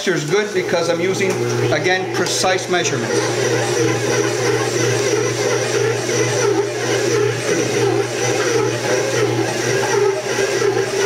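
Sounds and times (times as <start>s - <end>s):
stand mixer kneading dough: 0.0s - 11.0s.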